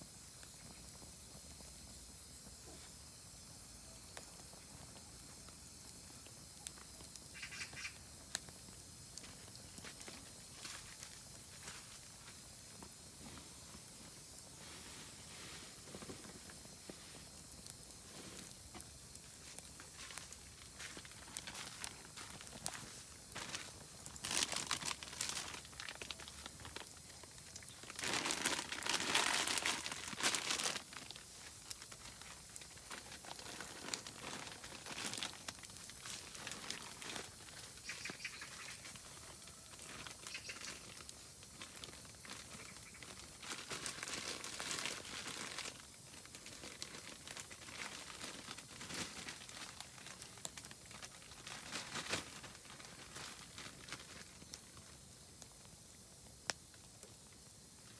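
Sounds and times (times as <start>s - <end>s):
firewood crackling and popping: 0.0s - 57.9s.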